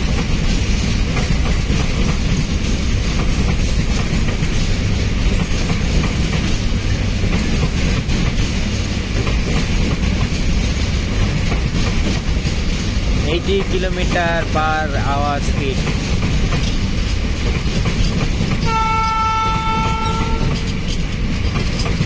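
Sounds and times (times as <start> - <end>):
train wheels rumbling on rail: 0.0 - 22.0
wheels clicking over rail joints: 0.0 - 22.0.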